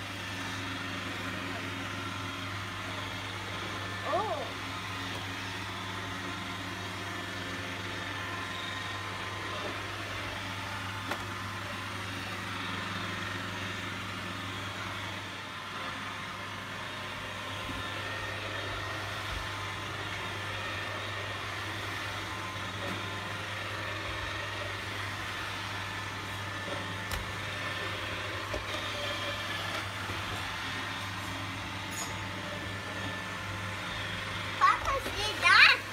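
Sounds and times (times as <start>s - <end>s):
robot vacuum humming: 0.0s - 35.9s.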